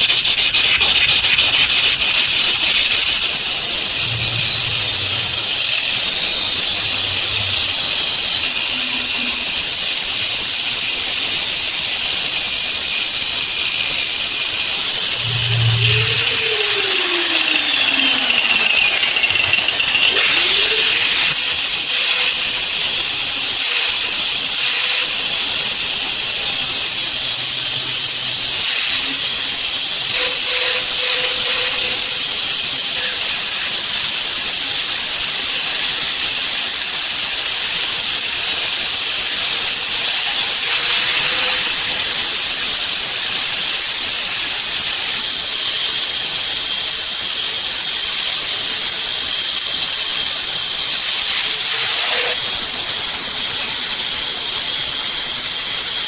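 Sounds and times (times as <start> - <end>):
loud steady hiss: 0.0 - 56.0.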